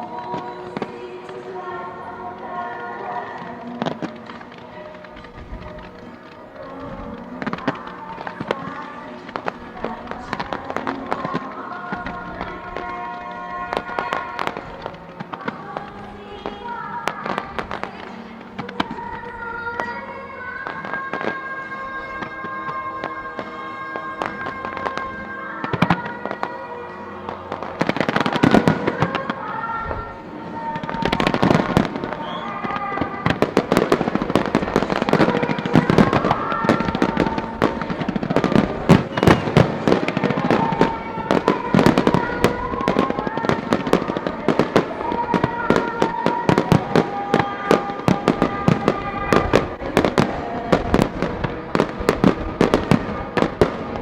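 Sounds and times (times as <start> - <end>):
fireworks bursts and crackles: 0.0 - 54.0
music playing: 0.0 - 54.0.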